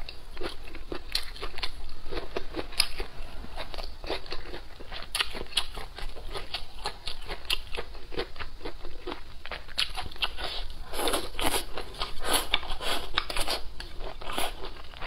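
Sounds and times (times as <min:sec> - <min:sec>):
chewing crunches: 0:00.0 - 0:15.0.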